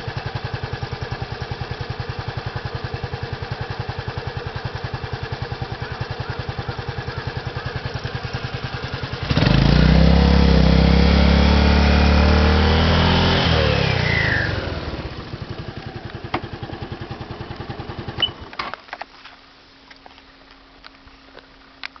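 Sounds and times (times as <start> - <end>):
scooter engine idling and revving: 0.0 - 18.5.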